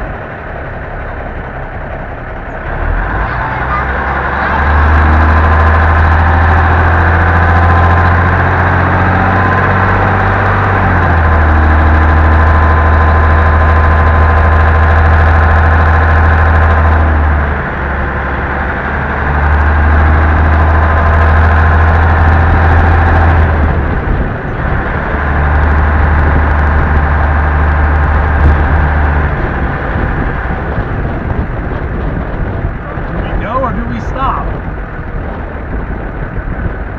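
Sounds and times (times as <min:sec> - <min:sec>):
diesel truck engine drone: 0:00.0 - 0:36.9.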